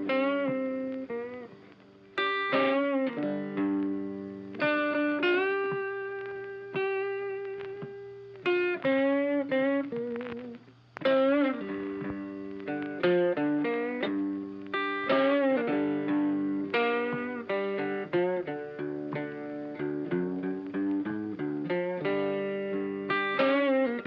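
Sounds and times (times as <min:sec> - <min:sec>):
picked string instrumental music: 0:00.0 - 0:24.0.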